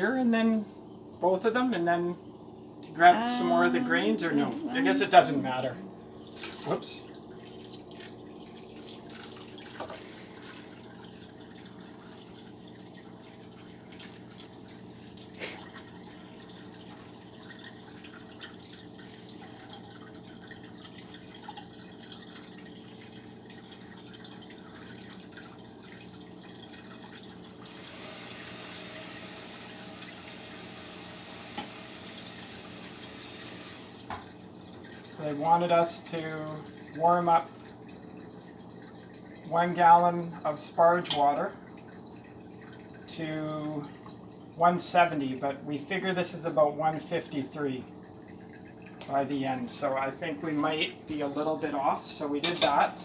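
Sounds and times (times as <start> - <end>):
liquid dripping and trickling: 6.1 - 45.4, 46.9 - 52.0.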